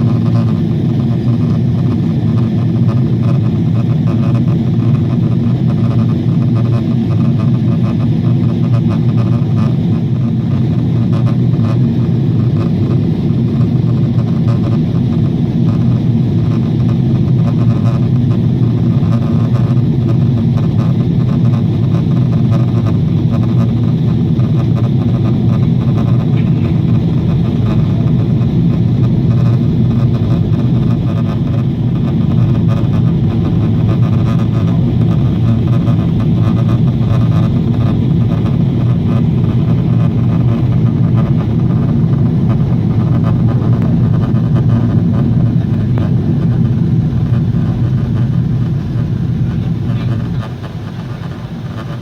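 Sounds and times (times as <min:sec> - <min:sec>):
airliner cabin engine roar: 0:00.0 - 0:52.0.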